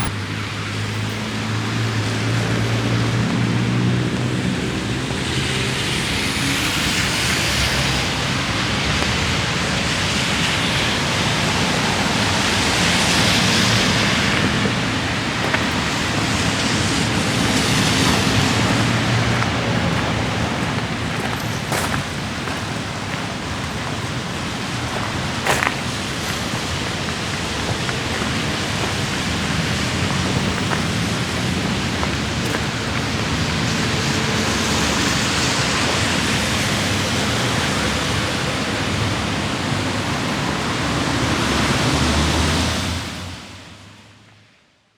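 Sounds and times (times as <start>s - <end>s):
cars passing on wet road: 0.0s - 44.7s.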